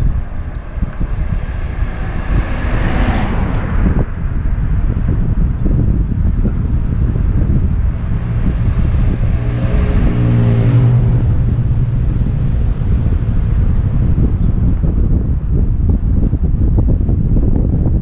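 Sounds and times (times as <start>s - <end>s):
vehicle engine passing: 0.0s - 15.6s
wind buffeting camera: 0.0s - 18.0s.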